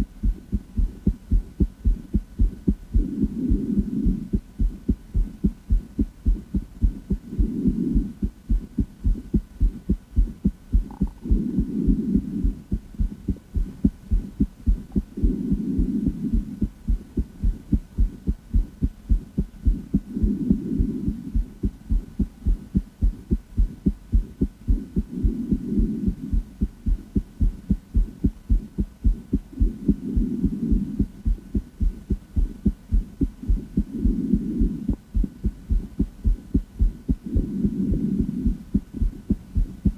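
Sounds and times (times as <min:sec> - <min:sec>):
heartbeat thumps: 0:00.0 - 0:39.9
low hum: 0:00.0 - 0:39.9.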